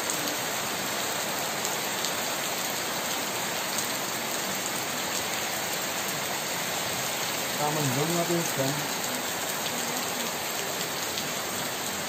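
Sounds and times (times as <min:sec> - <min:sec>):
heavy rain splashing into water: 0:00.0 - 0:12.0.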